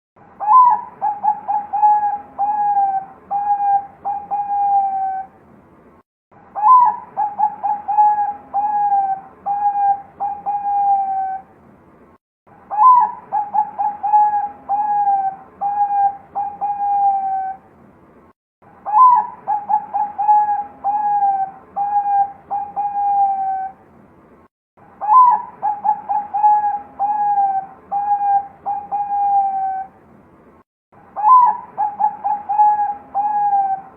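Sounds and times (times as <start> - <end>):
dove cooing: 0.4 - 5.3, 6.6 - 11.5, 12.7 - 17.6, 18.9 - 23.8, 25.0 - 29.9, 31.2 - 33.9.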